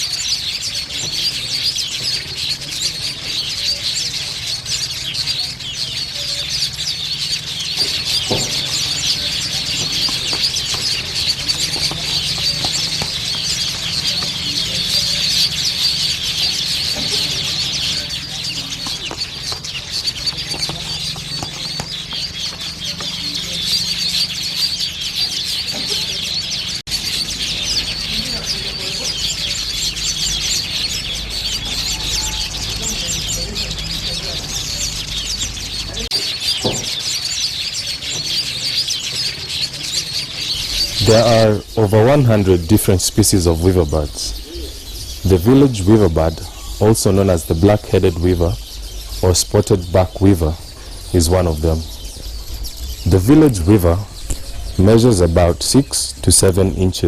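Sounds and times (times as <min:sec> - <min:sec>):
weaver birds chattering: 0:00.0 - 0:57.0.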